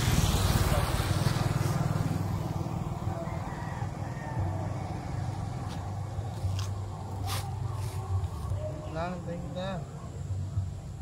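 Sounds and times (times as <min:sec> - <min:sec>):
motorcycle engines puttering: 0:00.0 - 0:09.0.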